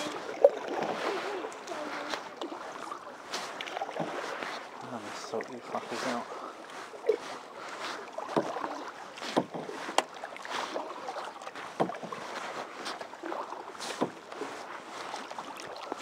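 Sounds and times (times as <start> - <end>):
paddle splashing through water: 0.0 - 16.0.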